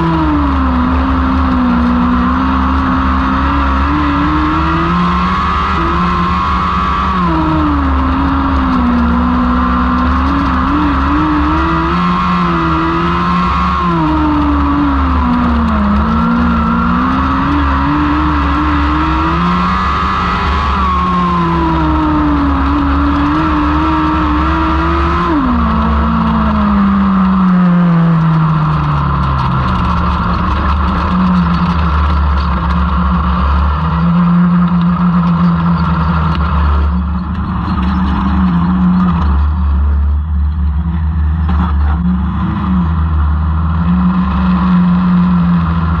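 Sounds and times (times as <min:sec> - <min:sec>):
motorcycle engines racing: 0:00.0 - 0:46.0.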